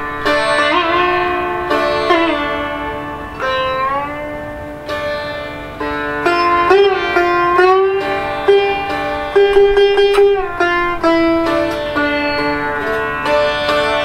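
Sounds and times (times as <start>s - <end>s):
sitar plucked notes: 0.0s - 14.0s.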